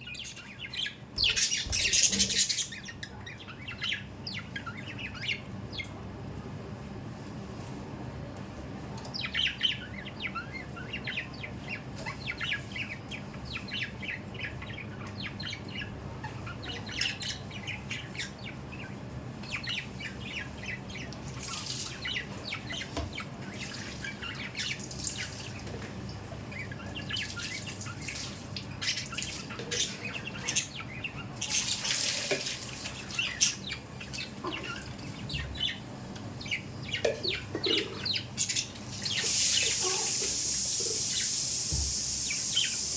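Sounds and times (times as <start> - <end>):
budgerigars chirping: 0.0 - 5.9, 9.2 - 25.8, 26.5 - 42.9.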